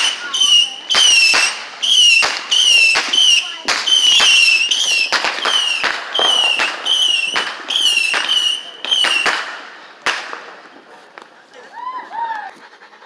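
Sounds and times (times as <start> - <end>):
fireworks whistles: 0.0 - 10.9
fireworks bangs: 0.0 - 12.2.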